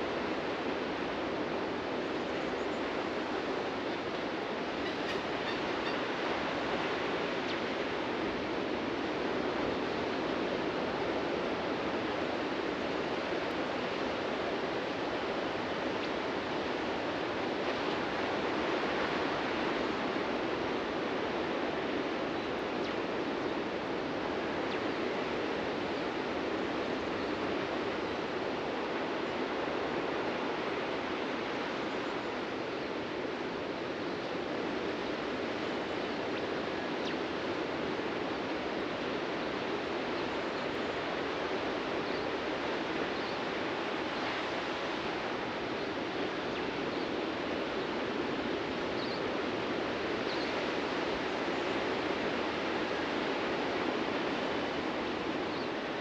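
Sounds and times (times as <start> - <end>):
waves breaking on a beach: 0.0 - 56.0.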